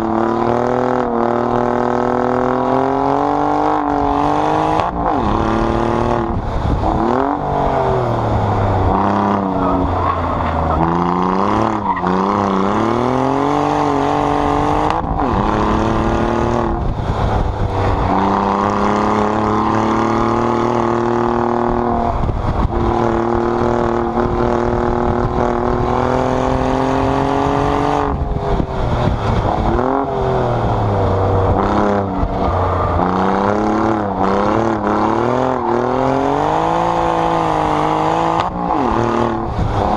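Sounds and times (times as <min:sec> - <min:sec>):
car exhaust under hard acceleration: 0:00.0 - 0:39.9.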